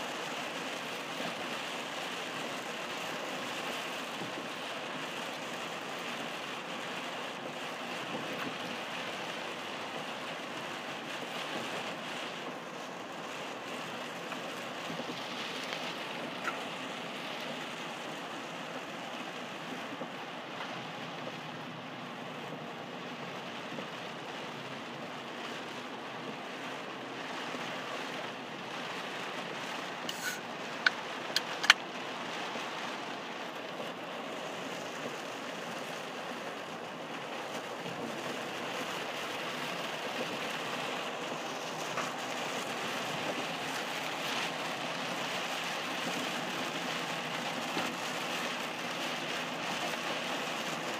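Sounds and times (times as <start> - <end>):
heavy rain on car: 0.0 - 50.9
tyres hissing on wet road: 0.0 - 50.9.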